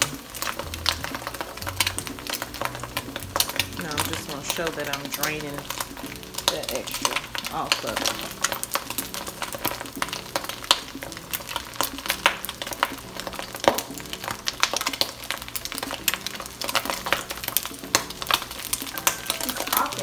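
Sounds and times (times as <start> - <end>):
eggs crackling in hot oil: 0.0 - 20.0.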